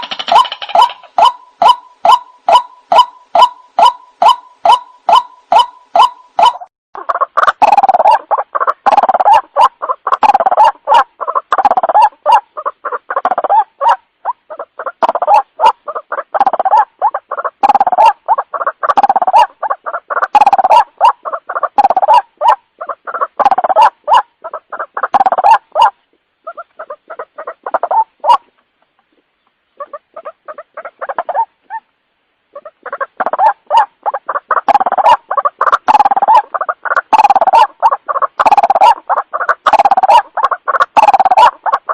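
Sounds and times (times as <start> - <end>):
waterhen calling: 0.0 - 41.9.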